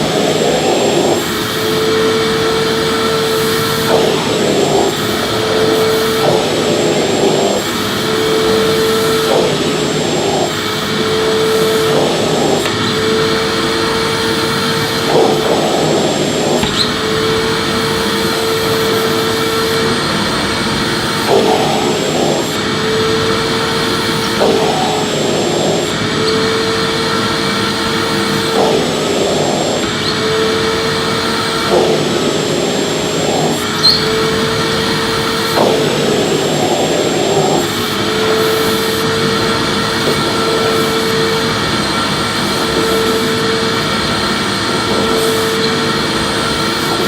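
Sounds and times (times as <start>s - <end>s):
vacuum cleaner whine: 0.0s - 47.0s.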